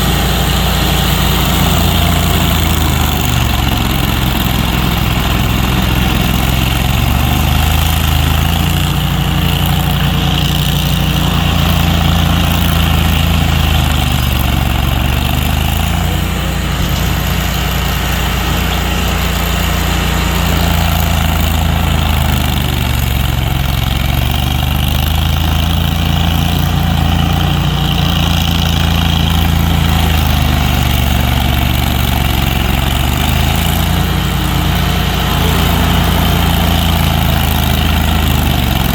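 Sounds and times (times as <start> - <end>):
large engine idling: 0.0 - 38.9.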